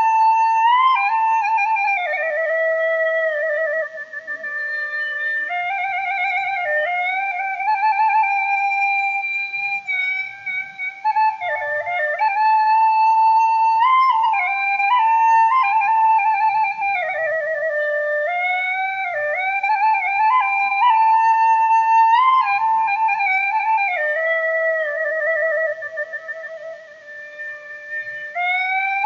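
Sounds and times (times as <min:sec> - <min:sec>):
flute-like slow melody: 0:00.0 - 0:29.0.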